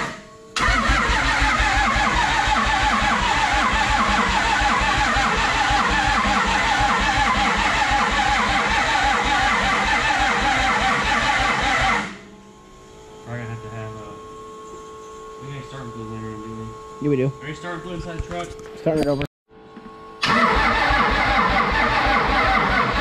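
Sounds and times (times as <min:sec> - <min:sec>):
loud vehicle engine pulsing: 0:00.0 - 0:18.8, 0:19.5 - 0:23.0.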